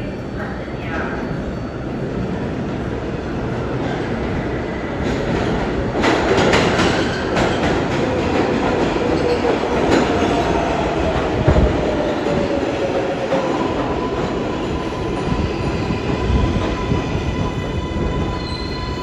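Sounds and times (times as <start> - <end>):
subway train rumble: 0.0 - 19.0.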